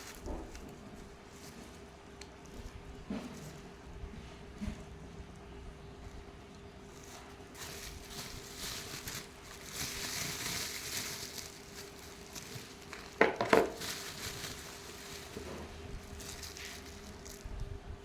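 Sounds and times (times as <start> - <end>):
packaging rustling and crinkling: 0.0 - 3.8, 6.1 - 17.8
faint steady hum: 0.0 - 18.0.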